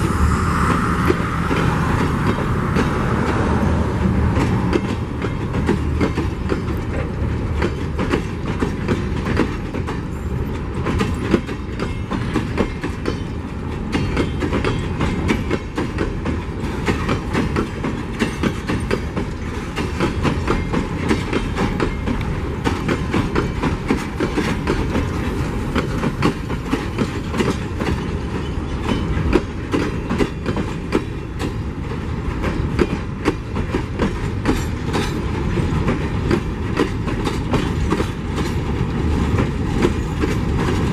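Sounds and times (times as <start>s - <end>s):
freight train rumbling past: 0.0s - 40.9s
wheels clattering over rail joints: 4.0s - 40.9s.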